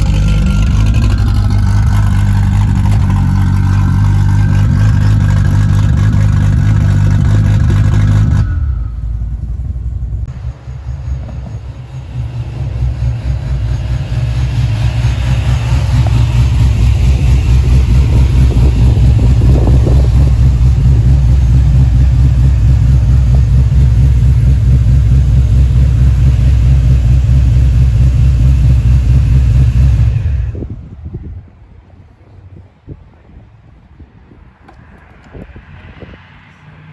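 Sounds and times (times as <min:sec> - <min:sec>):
car engine deep rumble: 0:00.0 - 0:36.8.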